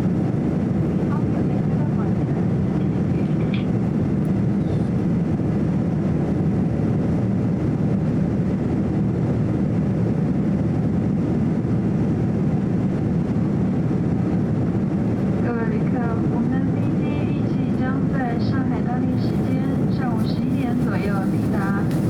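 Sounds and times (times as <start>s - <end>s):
airliner cabin roar: 0.0s - 22.0s.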